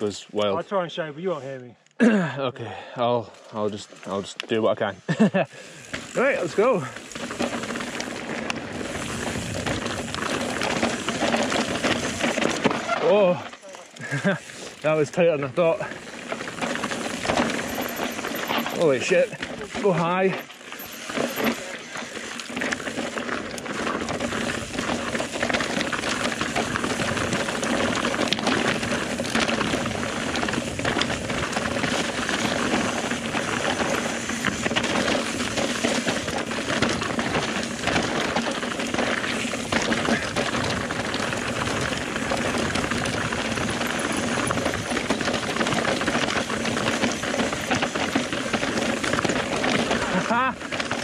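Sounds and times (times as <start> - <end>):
bike tyres rumbling: 3.2 - 51.0
constant rushing noise: 3.8 - 51.0
bike clattering over rocks: 5.8 - 51.0.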